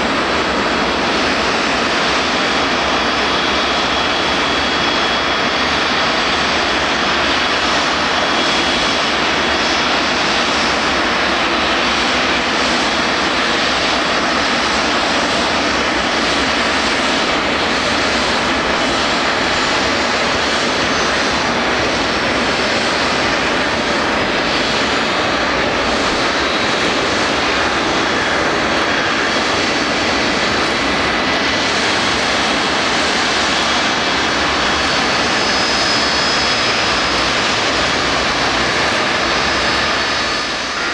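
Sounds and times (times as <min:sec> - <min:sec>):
aircraft engine rush: 0:00.0 - 0:40.9.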